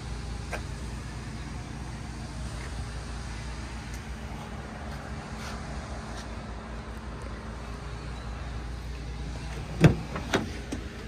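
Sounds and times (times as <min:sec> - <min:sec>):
traffic noise: 0:00.0 - 0:11.0
wind: 0:00.0 - 0:11.0.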